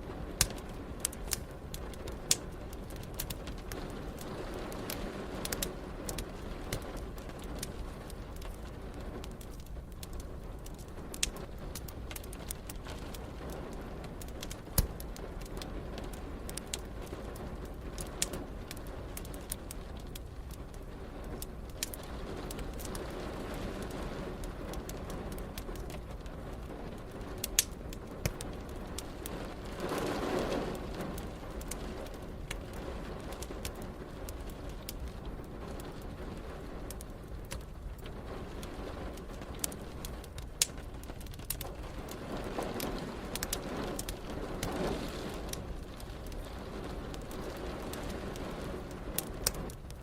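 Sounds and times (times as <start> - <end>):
rain hiss: 0.0 - 50.0
wood fire crackling and popping: 0.0 - 50.0.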